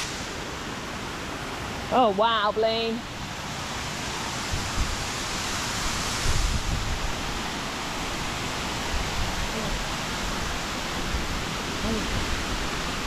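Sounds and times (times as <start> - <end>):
waterfall rushing over rock: 0.0 - 13.0.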